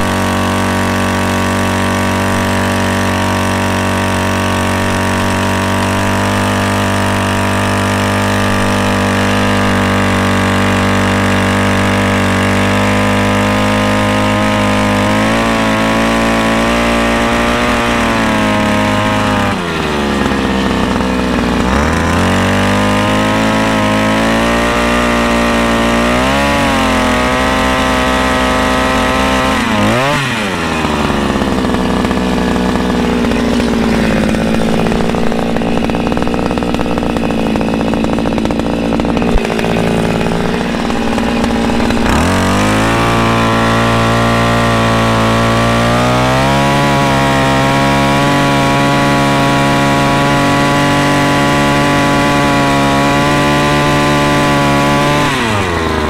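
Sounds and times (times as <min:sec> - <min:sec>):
earth auger engine revving: 0:00.0 - 0:56.0.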